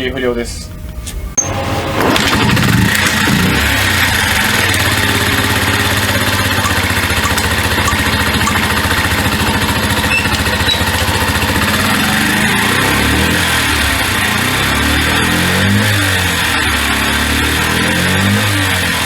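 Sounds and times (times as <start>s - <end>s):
small motorcycle engine idling: 2.4s - 19.0s.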